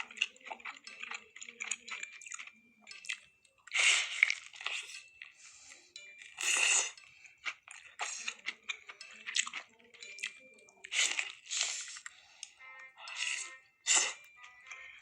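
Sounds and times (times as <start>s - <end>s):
faint background music: 0.0s - 15.0s
food crunching and crackling: 0.0s - 15.0s.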